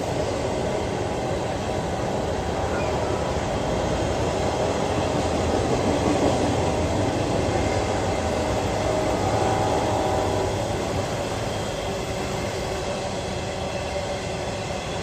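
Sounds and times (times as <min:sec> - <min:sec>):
train cars rumbling past: 0:00.0 - 0:15.0.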